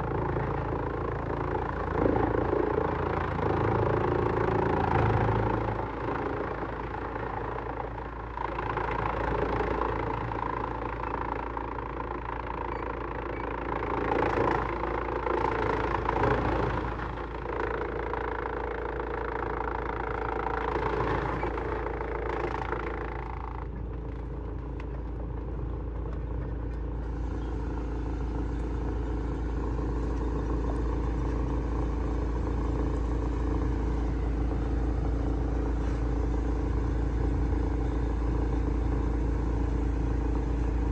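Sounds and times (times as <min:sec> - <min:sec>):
industrial wood shredder running: 0:00.0 - 0:40.9.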